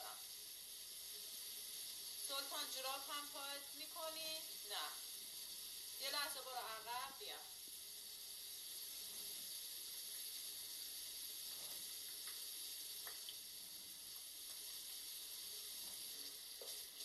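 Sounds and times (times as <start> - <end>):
water tap running: 0.0 - 17.0.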